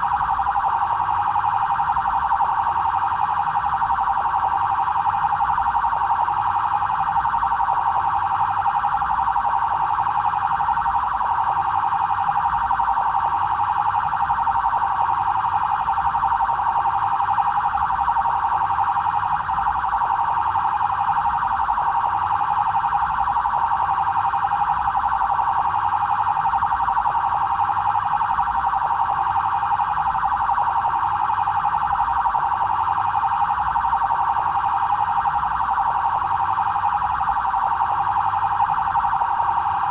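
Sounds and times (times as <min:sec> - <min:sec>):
electronic police siren wailing: 0:00.0 - 0:39.9.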